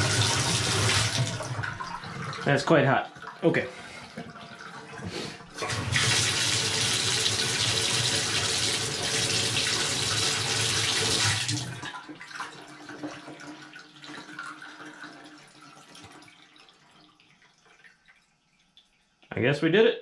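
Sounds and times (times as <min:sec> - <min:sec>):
water running into bathtub: 0:00.0 - 0:19.2.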